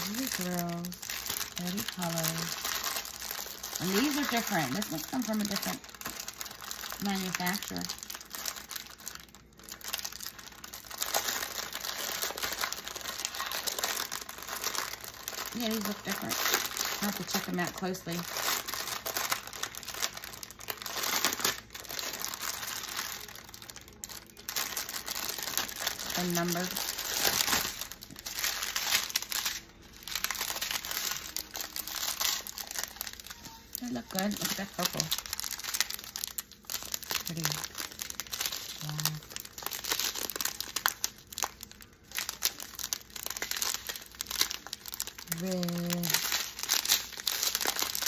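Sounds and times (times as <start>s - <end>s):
plastic bags crinkling: 0.0s - 48.0s.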